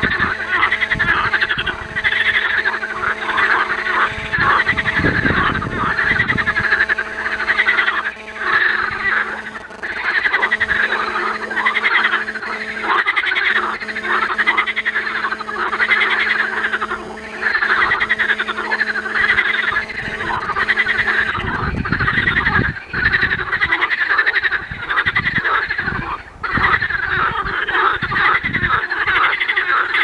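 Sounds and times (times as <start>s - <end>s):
frogs croaking: 0.0s - 30.0s
steady low hum: 0.0s - 30.0s.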